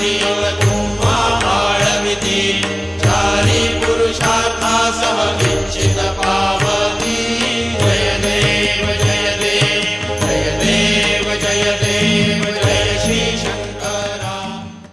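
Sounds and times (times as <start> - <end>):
devotional chanting: 0.0 - 14.9
instrumental music: 0.0 - 14.9
low drone: 0.0 - 14.9
percussion: 0.0 - 14.9.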